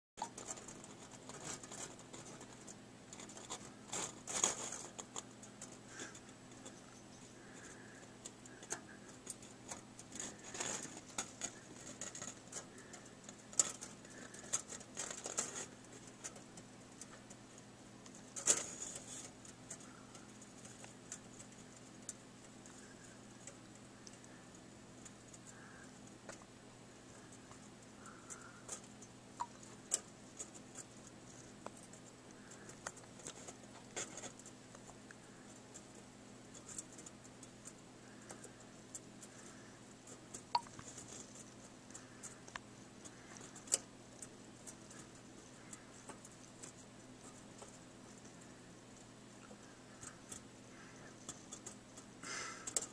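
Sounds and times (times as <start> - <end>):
low steady hum: 0.2 - 52.9
scratchy rustles: 0.2 - 52.9.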